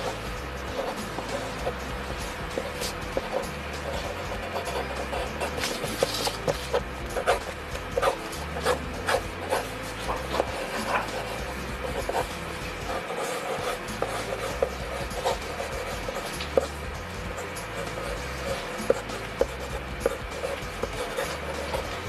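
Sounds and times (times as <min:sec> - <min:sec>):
pencil scratching on paper: 0:00.0 - 0:22.0
steady low hum: 0:00.0 - 0:22.0.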